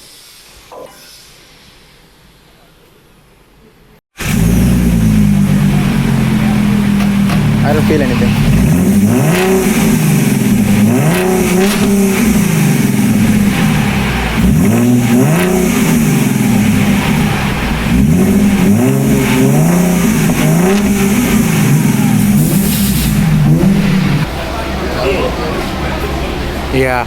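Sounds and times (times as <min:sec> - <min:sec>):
car engine revving: 0:04.2 - 0:27.0.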